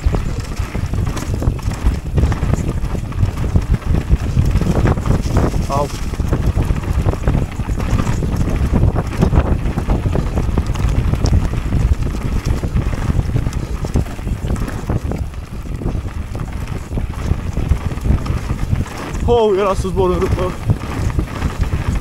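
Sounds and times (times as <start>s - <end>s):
bike clattering over bumps: 0.0s - 22.0s
bike tyre noise: 0.0s - 22.0s
wind buffeting microphone: 0.0s - 22.0s.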